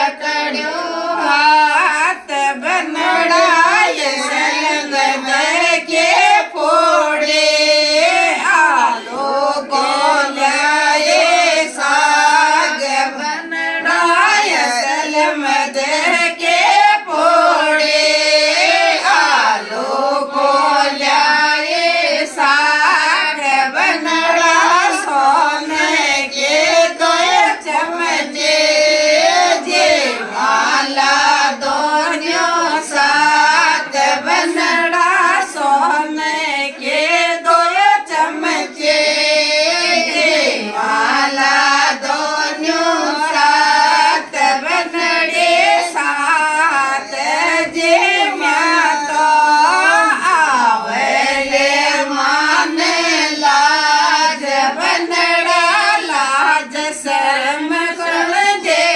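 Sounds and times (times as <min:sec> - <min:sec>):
women singing folk song: 0:00.0 - 0:58.9.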